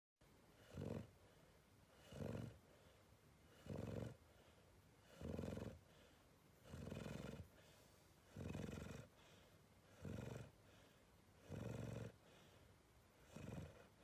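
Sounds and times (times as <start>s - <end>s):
dog snoring: 0.5s - 2.9s, 3.5s - 12.6s, 13.2s - 14.0s.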